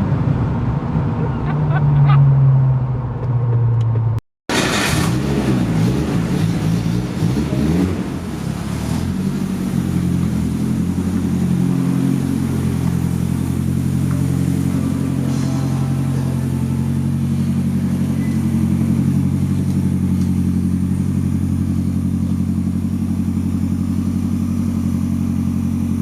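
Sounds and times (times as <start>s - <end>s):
car engine running: 3.1s - 26.0s.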